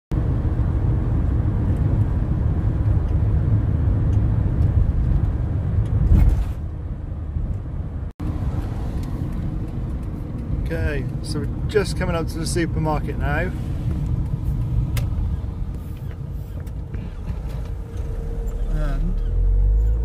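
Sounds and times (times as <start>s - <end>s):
van engine and road rumble: 0.1s - 20.0s.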